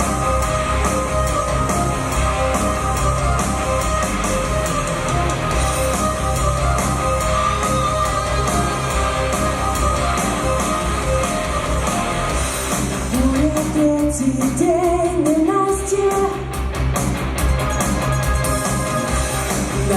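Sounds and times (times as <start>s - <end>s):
rock guitar bass and drums: 0.0s - 15.4s, 16.1s - 19.9s.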